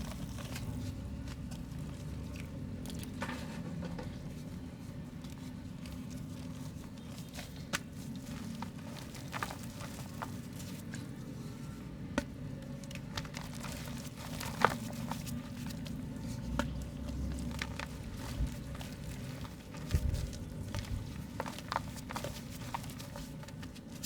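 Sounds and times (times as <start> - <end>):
mud crumbling with crackles: 0.0 - 24.0.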